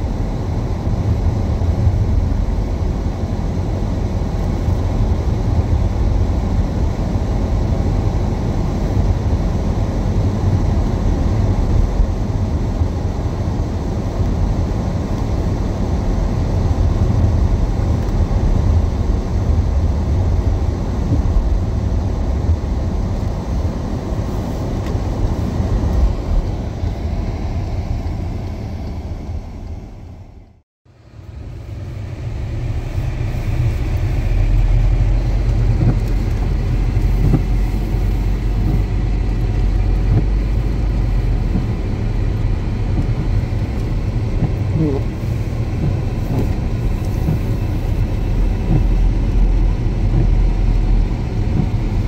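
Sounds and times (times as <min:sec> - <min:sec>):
car engine and tyre noise: 0:00.0 - 0:52.0.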